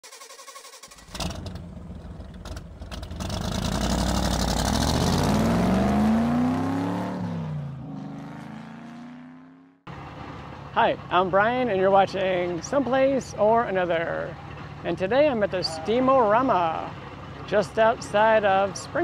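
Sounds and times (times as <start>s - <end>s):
vehicle engine accelerating: 1.1s - 19.0s.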